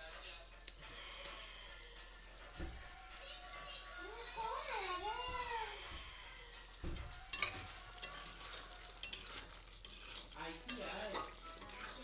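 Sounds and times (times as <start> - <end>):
gravy sizzling: 0.0 - 12.0
metal spatula scraping pan: 0.9 - 12.0.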